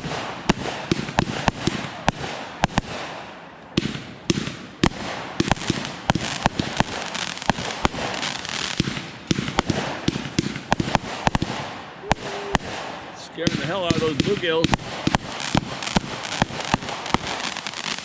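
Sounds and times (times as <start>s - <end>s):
firework crackling: 0.0s - 18.0s
firework reports: 0.0s - 18.0s.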